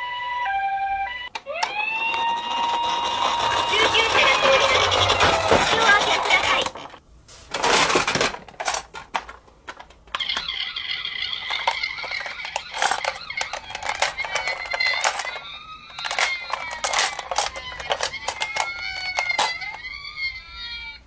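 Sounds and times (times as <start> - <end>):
toy electronic siren: 0.0 - 6.4, 10.2 - 21.0
toys clicking: 1.3 - 7.0, 7.8 - 20.8
plastic toy cars rattling in box: 2.1 - 19.9.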